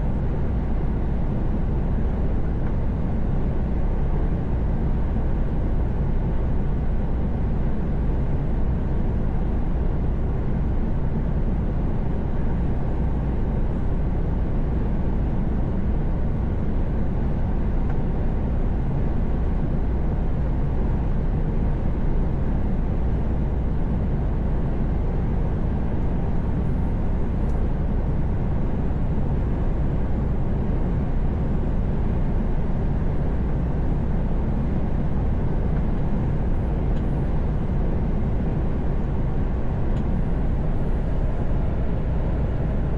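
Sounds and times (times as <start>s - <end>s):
truck engine and road drone: 0.0s - 42.9s.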